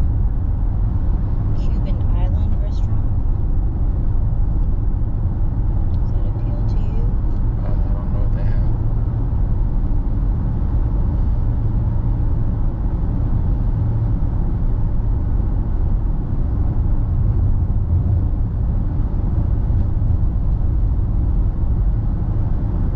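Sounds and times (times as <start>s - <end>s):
car driving on road: 0.0s - 22.9s.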